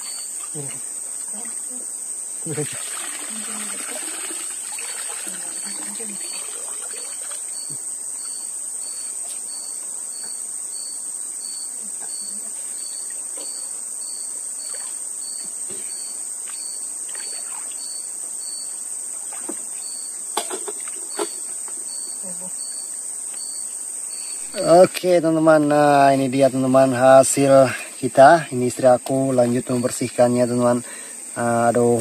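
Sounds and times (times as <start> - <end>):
insect chirping in pulses: 0.0 - 32.0
insect chorus: 0.0 - 32.0.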